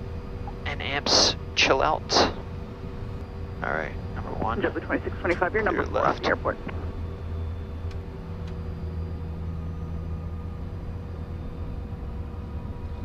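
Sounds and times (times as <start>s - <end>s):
jet engine idling hum: 0.0s - 13.0s
constant tones: 0.4s - 11.4s.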